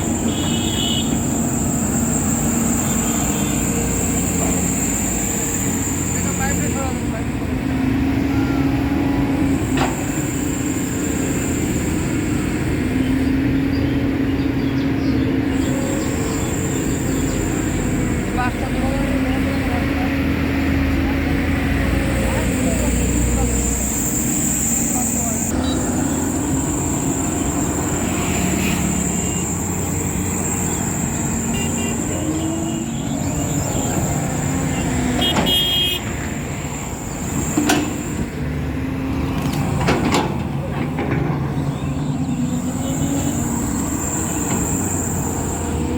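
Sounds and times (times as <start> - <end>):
highway traffic passing: 0.0 - 45.9
vehicle engine and road noise: 0.0 - 45.9.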